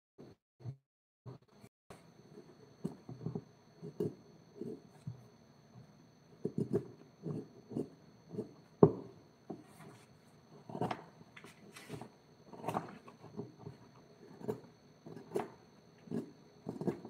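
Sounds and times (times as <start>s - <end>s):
tool scraping and tapping wood: 0.6s - 17.0s.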